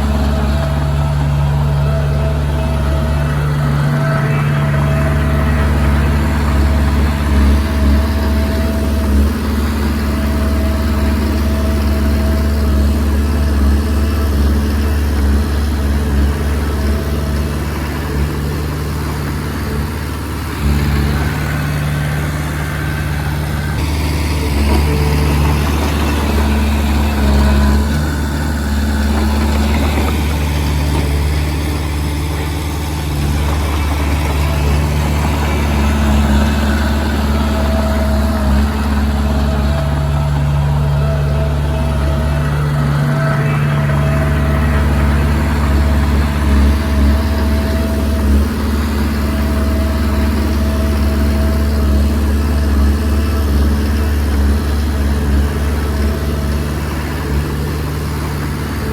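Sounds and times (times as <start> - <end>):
bulldozer diesel engine running: 0.0 - 58.9.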